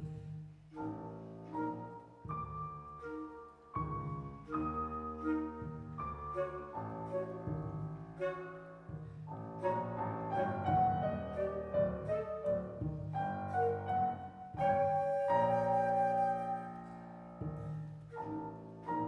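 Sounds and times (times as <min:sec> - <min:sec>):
acoustic bass notes: 0:00.0 - 0:19.0
piano chords: 0:00.0 - 0:19.0
clarinet: 0:00.7 - 0:19.0
flute: 0:00.7 - 0:19.0.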